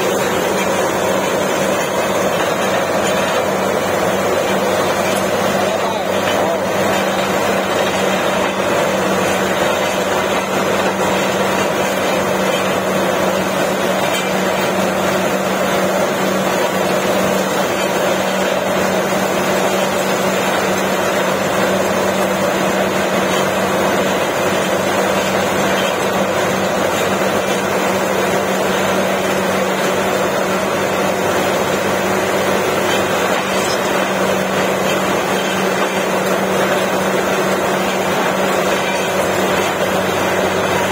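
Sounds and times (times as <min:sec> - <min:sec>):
drilling rig running: 0:00.0 - 0:40.9.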